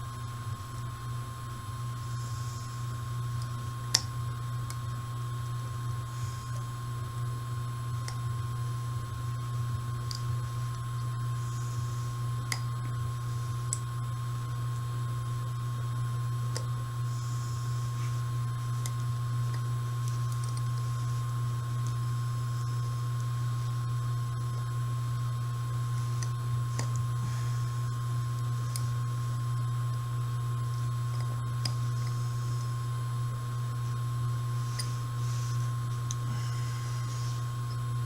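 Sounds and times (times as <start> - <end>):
steady low hum: 0.0 - 38.0
washing machine whine: 0.0 - 38.0.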